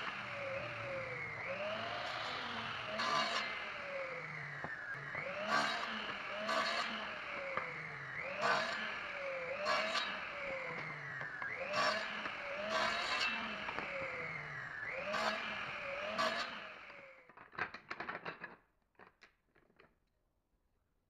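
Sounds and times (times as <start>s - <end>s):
mitre saw cutting wood: 0.0s - 17.2s.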